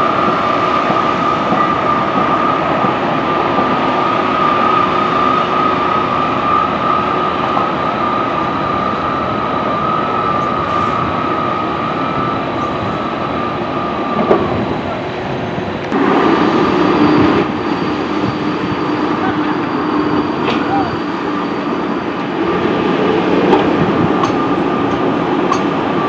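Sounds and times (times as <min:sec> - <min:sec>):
train rumble: 0:00.0 - 0:26.0
train wheels squealing: 0:00.0 - 0:26.0.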